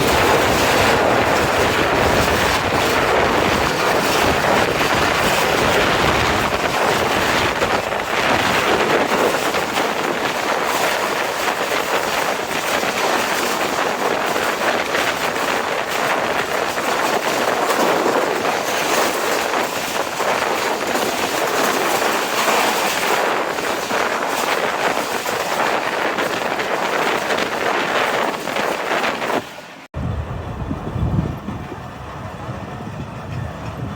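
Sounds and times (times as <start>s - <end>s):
train coaches running on track: 0.0s - 33.9s
wind buffeting microphone: 0.0s - 33.9s.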